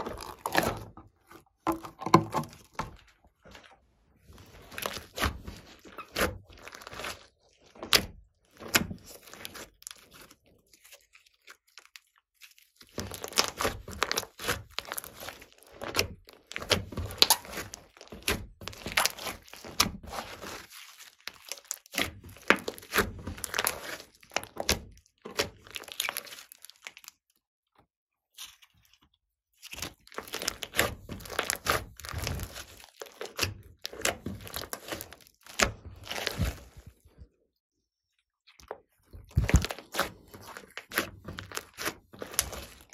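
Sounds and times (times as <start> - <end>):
slime crackling and popping: 0.0 - 1.0, 4.5 - 27.3, 29.6 - 36.9, 39.1 - 42.9.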